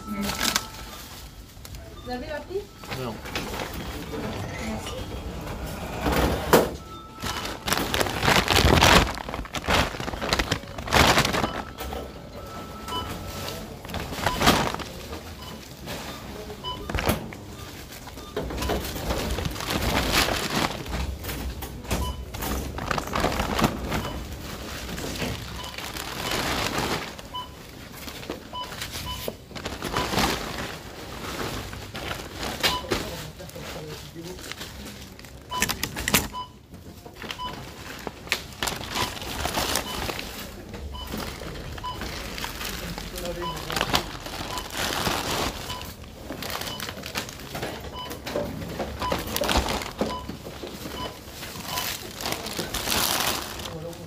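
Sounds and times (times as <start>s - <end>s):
bags and packaging rustling: 0.0s - 54.0s
checkout scanner beeps: 0.0s - 54.0s
store background noise: 0.0s - 54.0s.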